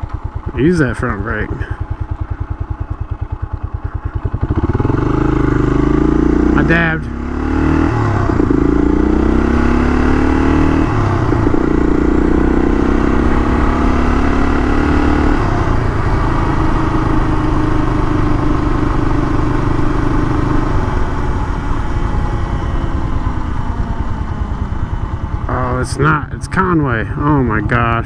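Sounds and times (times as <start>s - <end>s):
motorcycle engine pulling away: 1.6s - 28.0s.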